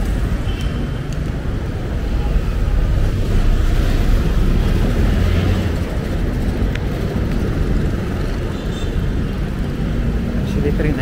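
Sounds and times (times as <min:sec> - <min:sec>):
passing vehicles rumble: 0:00.0 - 0:11.0.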